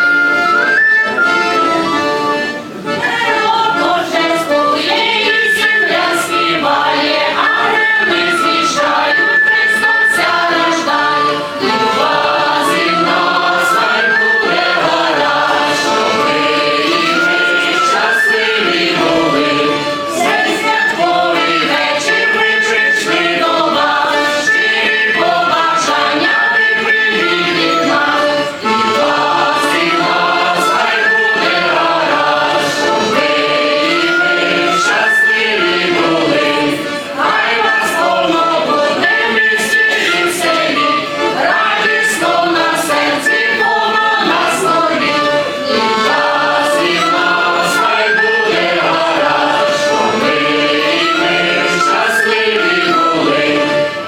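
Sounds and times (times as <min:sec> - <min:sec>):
choir singing a carol: 0:00.0 - 0:54.0.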